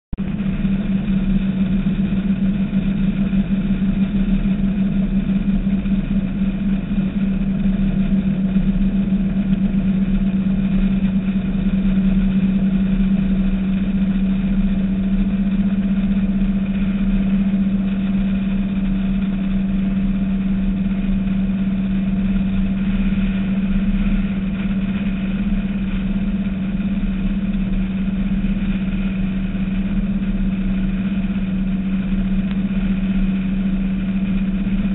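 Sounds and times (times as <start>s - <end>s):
boat engines droning: 0.2s - 34.9s.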